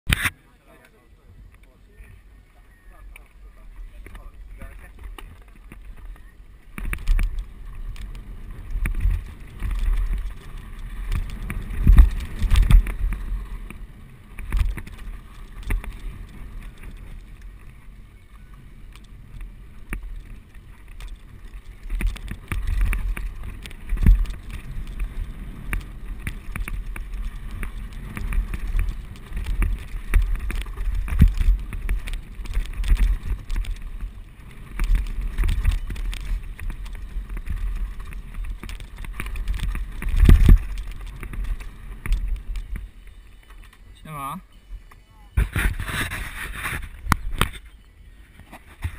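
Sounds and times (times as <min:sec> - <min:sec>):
wind buffeting microphone: 0:01.2 - 0:44.0
bike rattling and knocking: 0:03.1 - 0:43.9.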